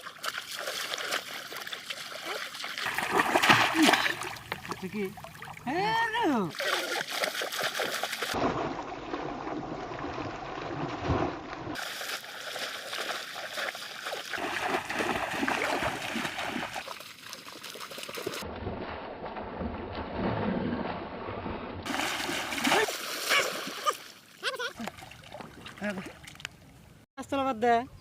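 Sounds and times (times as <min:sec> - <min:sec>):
shallow water sloshing and splashing: 0:00.0 - 0:26.8.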